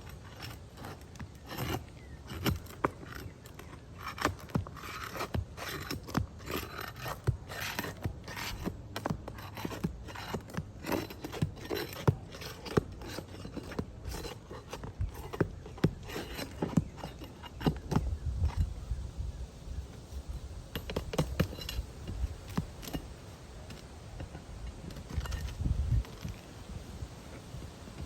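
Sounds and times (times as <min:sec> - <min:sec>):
shingles scraping and rasping: 0:00.0 - 0:18.8, 0:20.7 - 0:28.0.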